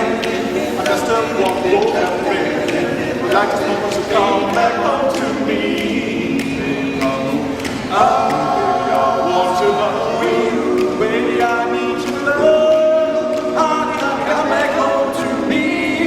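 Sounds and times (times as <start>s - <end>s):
a cappella group singing: 0.0s - 16.0s
light clicking beat: 0.0s - 16.0s.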